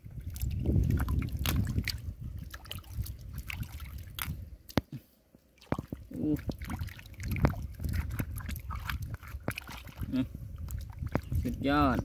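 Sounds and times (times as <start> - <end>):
water sloshing and splashing: 0.0 - 4.9, 5.5 - 12.0.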